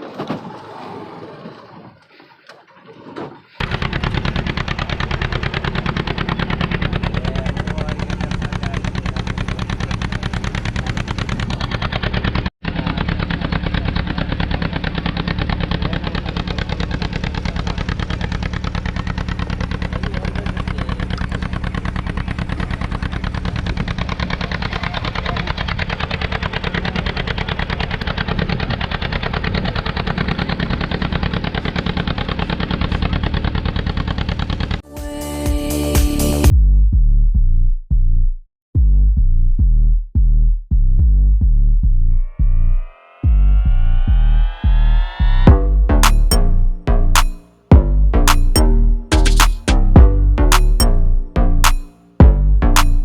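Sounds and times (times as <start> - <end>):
boat engine running: 0.0 - 34.8, 42.2 - 53.0.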